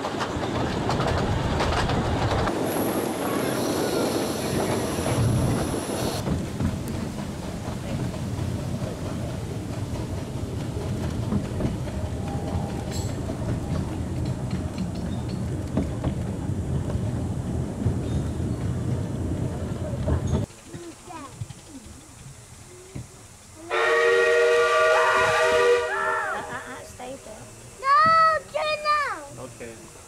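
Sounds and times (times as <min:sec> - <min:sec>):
miniature train rumbling: 0:00.0 - 0:30.0.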